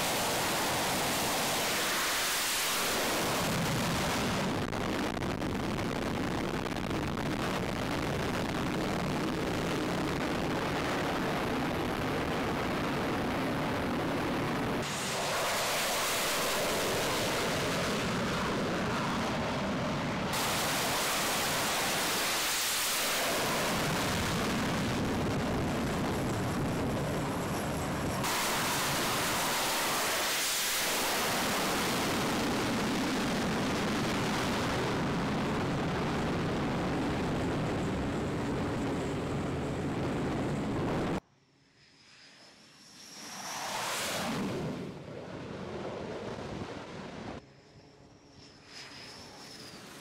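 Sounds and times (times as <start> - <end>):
jet engines roaring: 0.0 - 41.2, 41.8 - 50.0.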